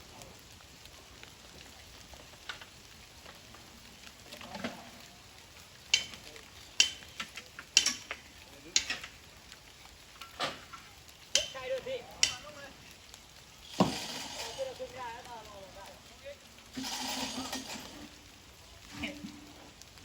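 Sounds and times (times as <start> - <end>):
rain hissing: 0.0 - 20.0.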